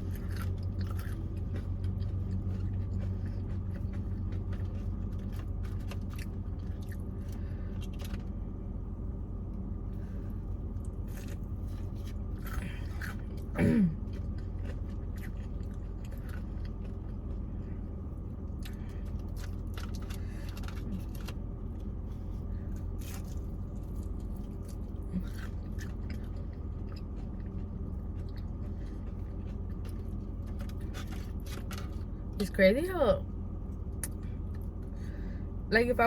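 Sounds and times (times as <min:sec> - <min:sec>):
chewing crunchy food: 0:00.0 - 0:08.4, 0:09.9 - 0:32.3
steady low hum: 0:00.0 - 0:36.0.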